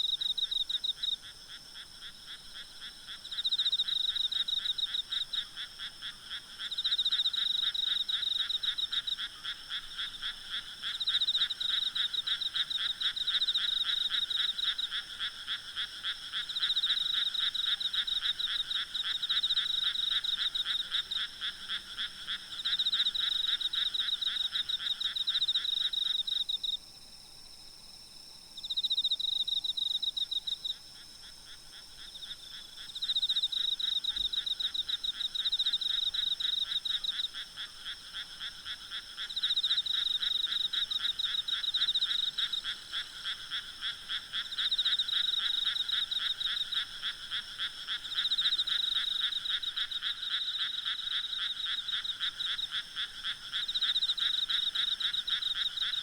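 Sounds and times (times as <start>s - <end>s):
frogs calling in pulsed trills: 0.0s - 26.8s, 28.6s - 56.0s
insects trilling: 0.0s - 26.8s, 27.9s - 56.0s.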